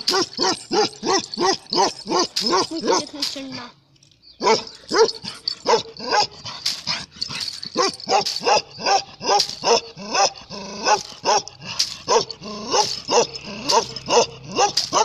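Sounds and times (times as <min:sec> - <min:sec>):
dog barking: 0:00.0 - 0:03.1, 0:04.4 - 0:15.0.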